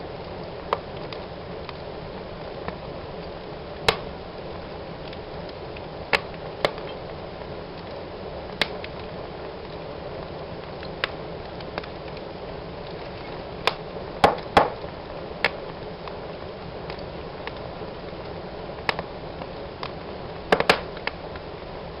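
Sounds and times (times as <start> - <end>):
fire flames hissing: 0.0 - 22.0
wood fire crackling pops: 0.1 - 22.0.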